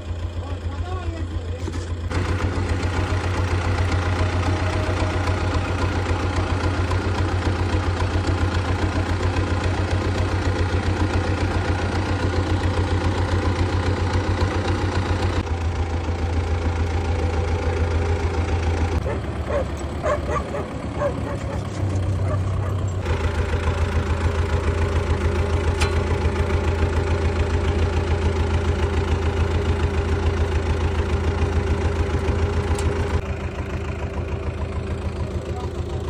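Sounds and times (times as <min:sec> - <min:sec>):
heavy engine running: 0:00.0 - 0:36.0.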